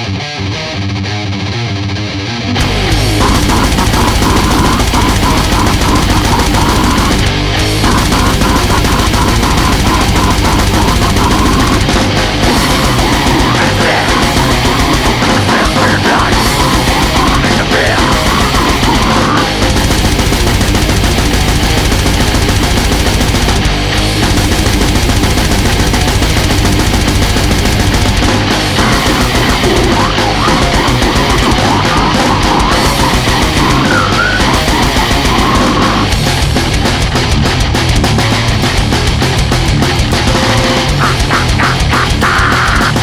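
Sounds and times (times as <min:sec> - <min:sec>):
extreme metal music: 0:00.0 - 0:43.0.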